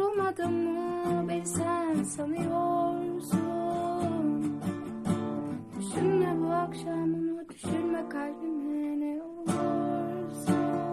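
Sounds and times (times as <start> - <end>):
woman singing wordless notes: 0.0 - 4.5, 5.8 - 10.9
acoustic guitar strumming: 0.0 - 8.7, 9.4 - 10.9.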